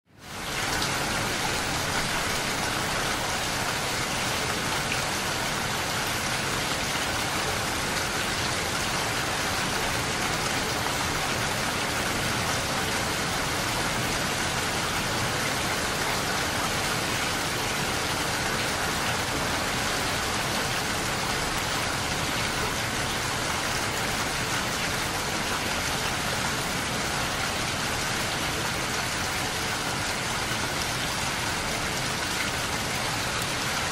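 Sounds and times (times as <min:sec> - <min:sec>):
rain pattering: 0:00.2 - 0:33.9.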